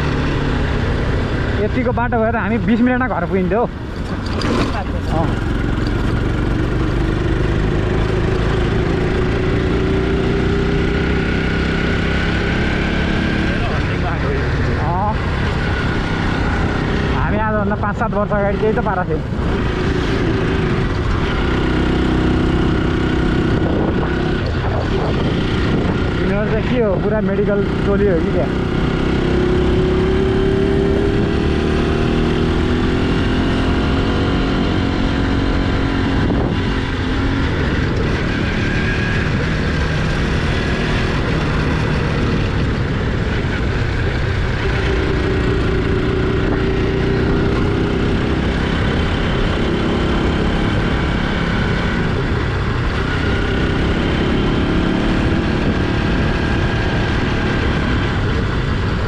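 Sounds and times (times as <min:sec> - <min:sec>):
motorcycle engine revving: 0:00.0 - 0:59.0
steady rushing noise: 0:00.0 - 0:59.0.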